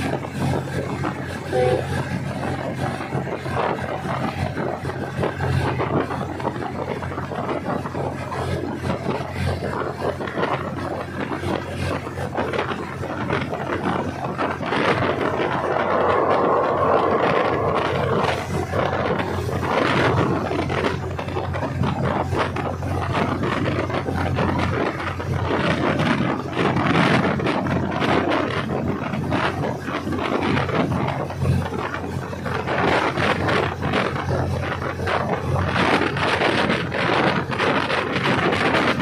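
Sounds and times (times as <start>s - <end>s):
diesel railcar engine drone: 0.0s - 39.0s
wheels rumbling on track: 0.0s - 39.0s.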